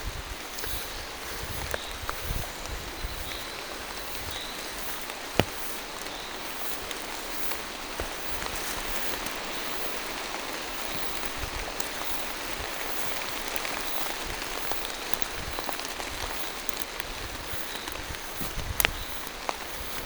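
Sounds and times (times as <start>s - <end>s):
rain on foliage: 0.0s - 20.0s.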